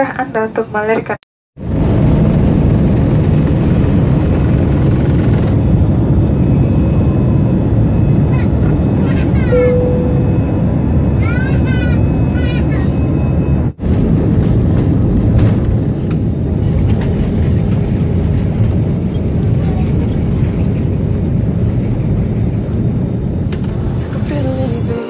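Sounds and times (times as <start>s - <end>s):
airplane cabin engine rumble: 0.0s - 25.0s.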